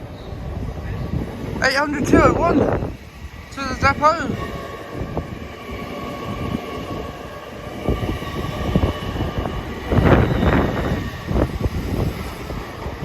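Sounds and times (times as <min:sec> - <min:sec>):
train passing with whine: 0:00.0 - 0:13.0
train wheels rumbling and clattering: 0:00.0 - 0:13.0.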